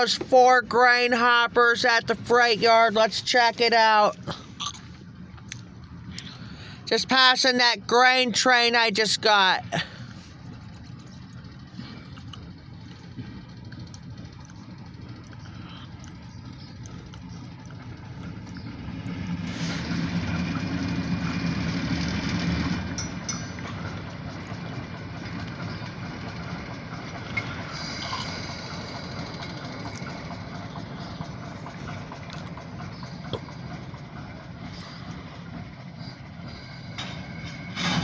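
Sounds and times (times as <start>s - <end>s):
locomotive engine rumbling: 0.0s - 38.0s.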